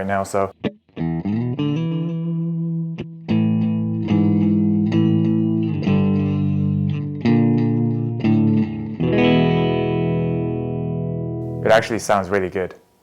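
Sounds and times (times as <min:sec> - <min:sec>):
electric guitar chords with delay: 0:00.6 - 0:11.6.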